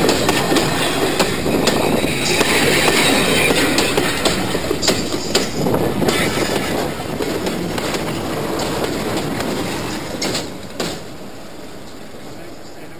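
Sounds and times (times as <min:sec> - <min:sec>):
wheels clicking over rail joints: 0:00.0 - 0:11.2
train rolling and wind noise: 0:00.0 - 0:12.9.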